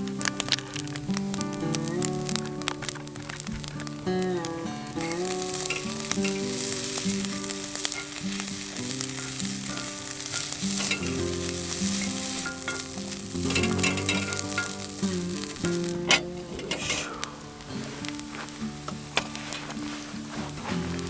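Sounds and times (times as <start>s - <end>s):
oysters sizzling on a grill: 0.0s - 21.0s.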